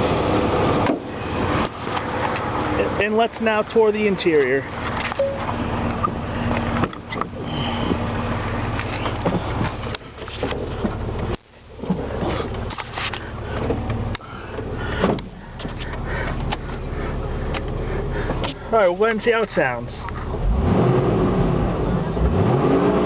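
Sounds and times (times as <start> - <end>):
car engine idling: 0.0 - 20.6.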